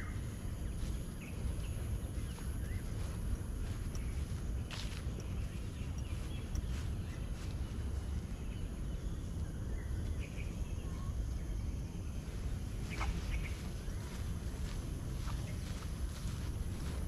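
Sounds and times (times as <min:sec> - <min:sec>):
footsteps on grass: 0:00.0 - 0:11.0, 0:12.0 - 0:17.0
faint bird chirps: 0:00.0 - 0:17.0
wind rumble on microphone: 0:00.0 - 0:17.0.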